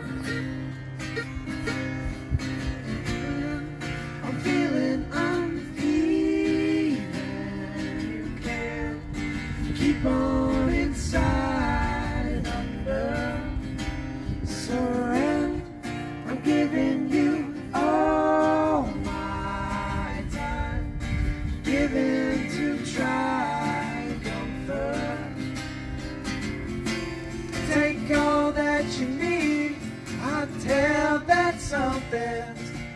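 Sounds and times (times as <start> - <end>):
acoustic guitar and mandolin strumming: 0.0 - 32.9
men singing in harmony: 2.6 - 26.0, 27.5 - 32.9.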